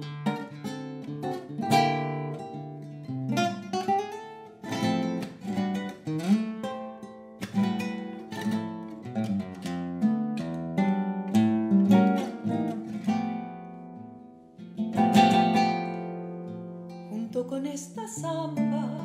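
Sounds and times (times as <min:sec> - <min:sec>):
classical guitar playing: 0:00.0 - 0:19.0.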